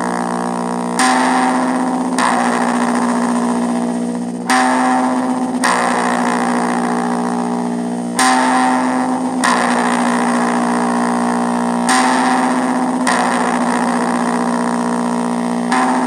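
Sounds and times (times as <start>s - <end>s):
distorted guitar chords: 0.0s - 16.0s.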